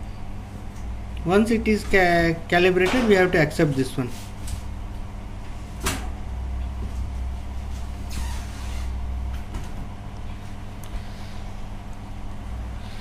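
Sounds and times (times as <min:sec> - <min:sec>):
faint steady hum: 0:00.0 - 0:13.0
low mechanical rumble: 0:00.0 - 0:13.0.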